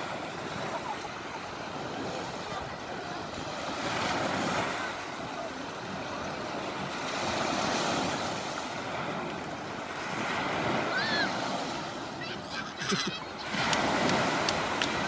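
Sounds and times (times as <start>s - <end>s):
surf washing: 0.0s - 15.0s.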